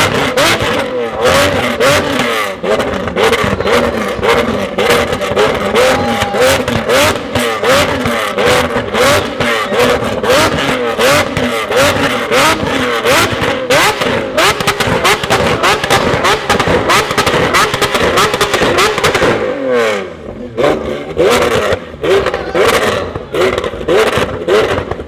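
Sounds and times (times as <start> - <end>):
exhaust pops and bangs: 0.0 - 19.5, 20.2 - 25.0
car engine revving hard: 0.0 - 25.0.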